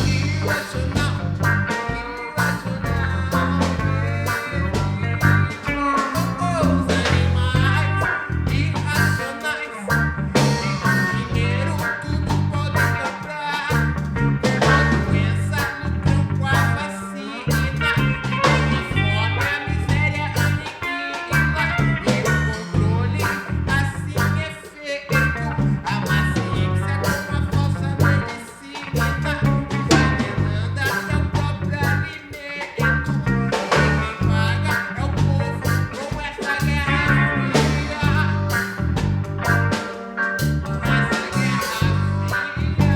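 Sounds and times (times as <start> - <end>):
steady drum beat: 0.0 - 16.9, 17.5 - 24.5, 25.1 - 42.9
electric guitar playing: 0.0 - 42.9
moving bass line: 0.0 - 42.9.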